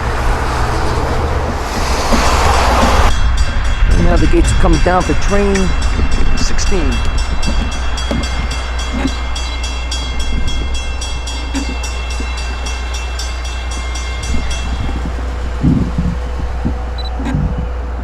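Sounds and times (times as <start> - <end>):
crossing warning bell ringing: 0.0 - 18.0
steady low rumble: 0.0 - 18.0.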